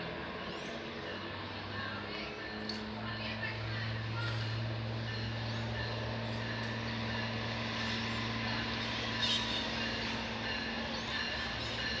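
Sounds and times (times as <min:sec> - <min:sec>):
diesel locomotive humming: 0:00.0 - 0:12.0.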